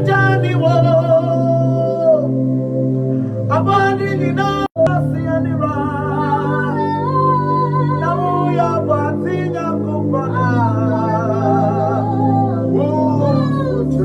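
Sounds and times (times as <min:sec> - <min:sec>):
person singing slow melody: 0:00.0 - 0:14.0
sustained instrumental chords: 0:00.0 - 0:14.0.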